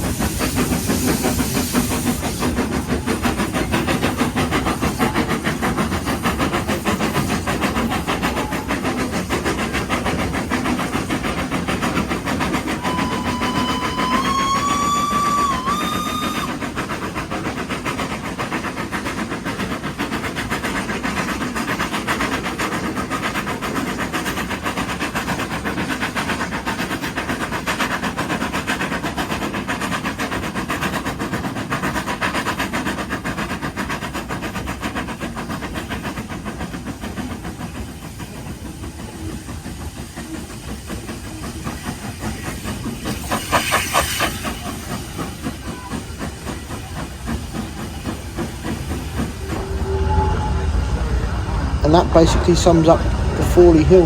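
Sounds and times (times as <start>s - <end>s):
steam hiss: 0.0s - 54.0s
steam locomotive exhaust beats: 0.0s - 54.0s.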